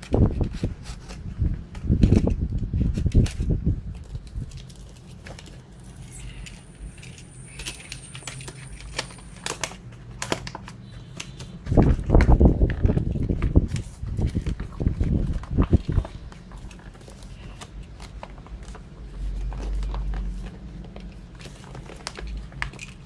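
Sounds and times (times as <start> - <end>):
packaging handled: 0.0 - 23.0.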